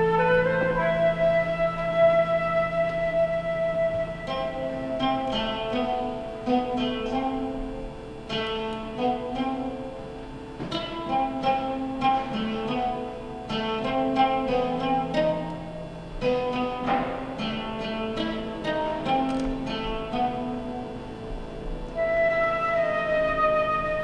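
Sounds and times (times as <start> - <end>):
lower held notes: 0.0 - 24.0
plucked lute melody: 0.0 - 24.0.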